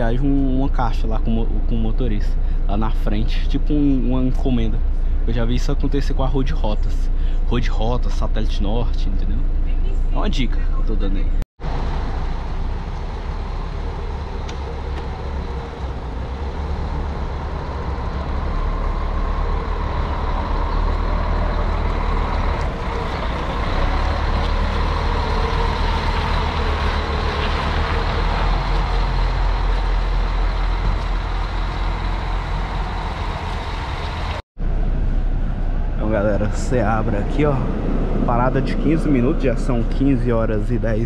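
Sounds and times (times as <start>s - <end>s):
bus engine rumble: 0.0s - 41.0s
road noise: 0.0s - 41.0s.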